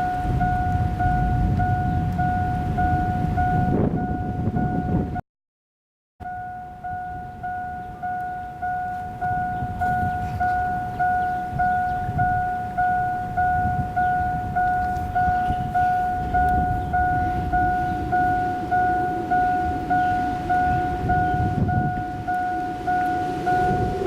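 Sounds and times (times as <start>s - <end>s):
electronic warning chime: 0.0s - 5.2s, 6.2s - 24.0s
wind noise rumble: 0.0s - 5.2s, 6.2s - 24.0s.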